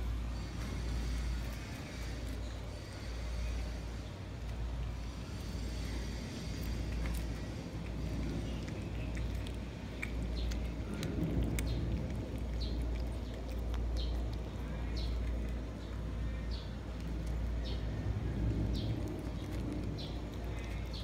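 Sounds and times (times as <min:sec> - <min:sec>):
cats chewing fish: 0:00.0 - 0:21.0
steady low rumble: 0:00.0 - 0:21.0.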